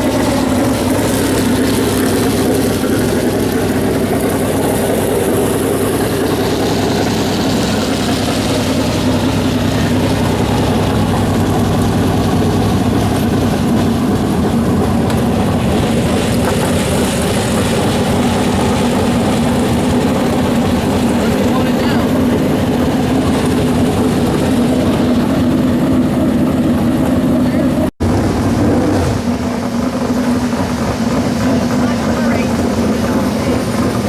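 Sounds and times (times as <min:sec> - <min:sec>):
race car engines running: 0:00.0 - 0:34.0.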